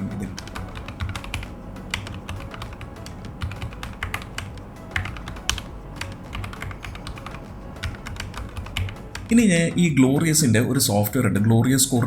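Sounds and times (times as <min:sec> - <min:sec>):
fast keyboard typing: 0:00.0 - 0:10.4
background music: 0:00.0 - 0:12.0.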